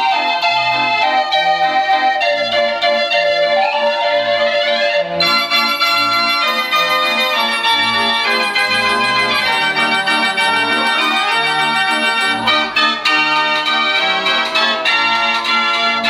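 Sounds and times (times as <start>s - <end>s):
street organ playing: 0.0s - 16.0s.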